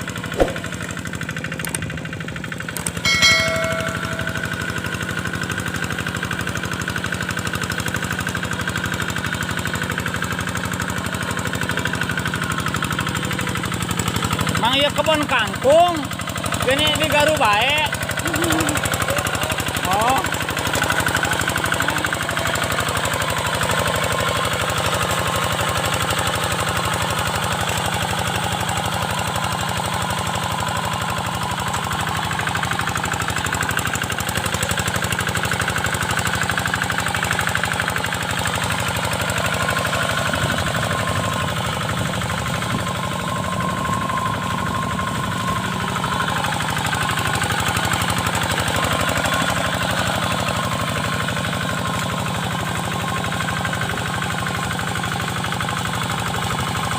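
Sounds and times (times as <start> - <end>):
diesel engine knocking: 0.0 - 56.9.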